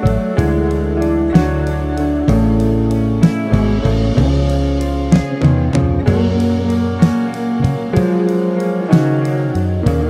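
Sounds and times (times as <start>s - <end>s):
guitar chords: 0.0s - 10.0s.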